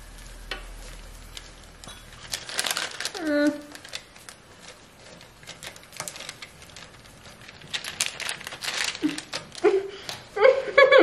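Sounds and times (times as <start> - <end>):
baking paper crinkling: 0.0 - 11.0.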